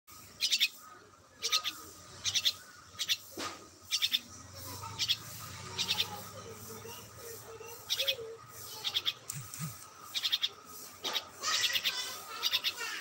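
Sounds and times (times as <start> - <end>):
bird chirping: 0.1 - 13.0.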